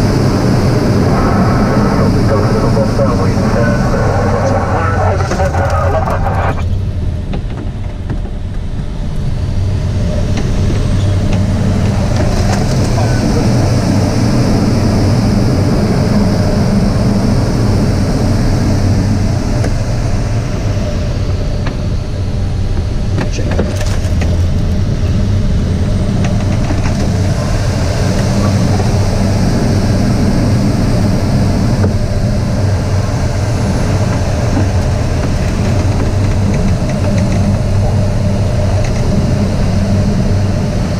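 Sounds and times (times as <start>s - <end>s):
low hum: 0.0s - 40.9s.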